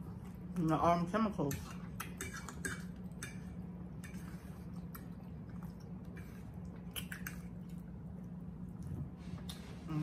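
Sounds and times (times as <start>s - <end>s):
soft chewing and mouth sounds: 0.0s - 0.6s, 1.5s - 10.0s.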